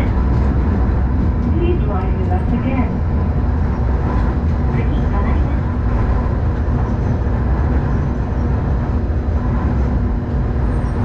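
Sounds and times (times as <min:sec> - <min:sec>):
streetcar wheels rumbling on rail: 0:00.0 - 0:11.0.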